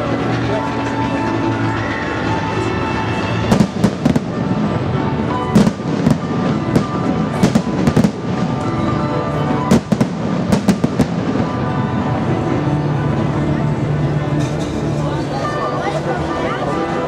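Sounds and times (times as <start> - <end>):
music playing: 0.0 - 17.0.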